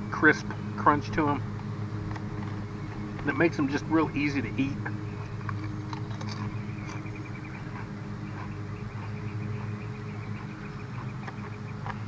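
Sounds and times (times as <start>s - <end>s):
lawn mower engine droning: 0.0s - 12.0s.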